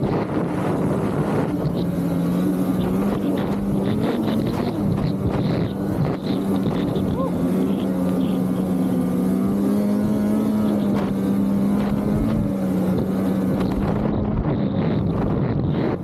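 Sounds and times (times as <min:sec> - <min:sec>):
snowmobile engine running: 0:00.0 - 0:16.0
wind noise: 0:00.0 - 0:16.0.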